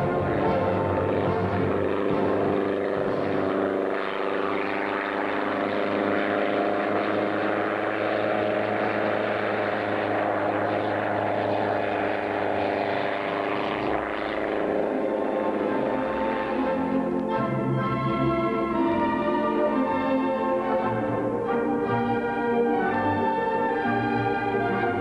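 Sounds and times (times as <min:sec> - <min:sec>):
helicopter drone with pulsing beat: 0:00.0 - 0:25.0.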